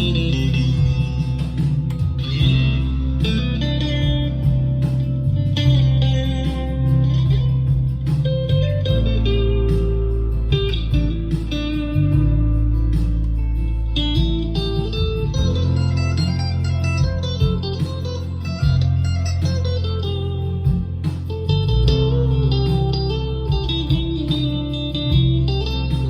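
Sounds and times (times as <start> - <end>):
backing track bass and beat: 0.0 - 26.0
electric guitar playing: 0.0 - 26.0.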